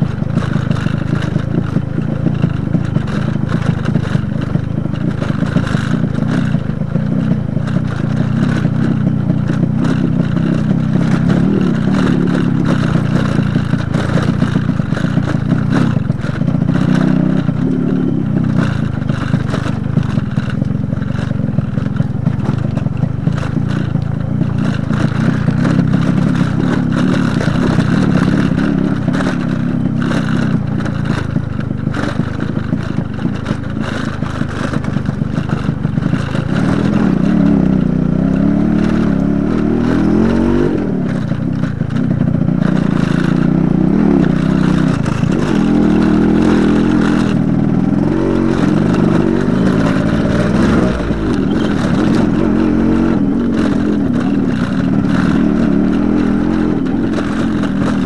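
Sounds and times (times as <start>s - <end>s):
motorcycle clattering over stones: 0.0s - 58.0s
two-stroke motorcycle engine revving: 0.0s - 58.0s.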